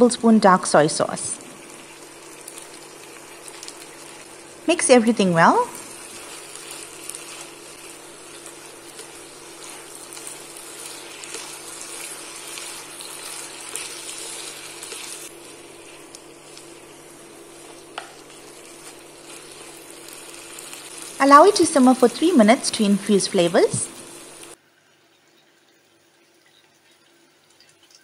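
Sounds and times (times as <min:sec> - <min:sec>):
noodles sizzling in a wok: 0:00.0 - 0:24.6.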